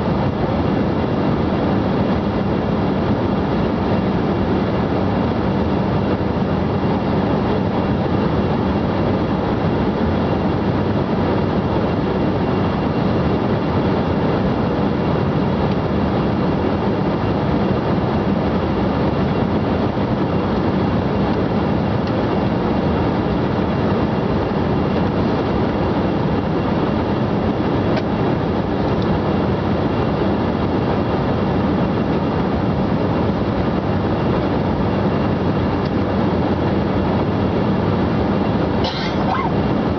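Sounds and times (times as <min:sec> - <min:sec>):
airliner engines and airflow rushing: 0:00.0 - 0:39.9
constant low hum: 0:00.0 - 0:39.9.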